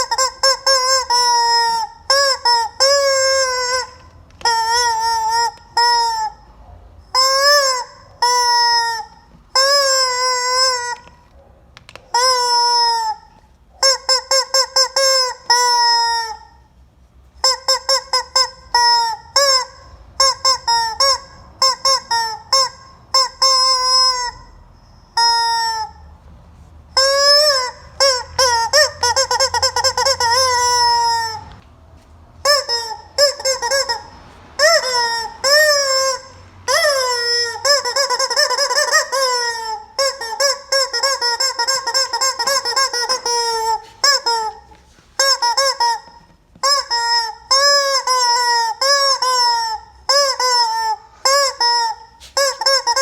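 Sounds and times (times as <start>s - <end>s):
rubber chicken toy squawking: 0.0s - 16.7s, 17.4s - 26.2s, 26.9s - 31.7s, 32.4s - 53.0s.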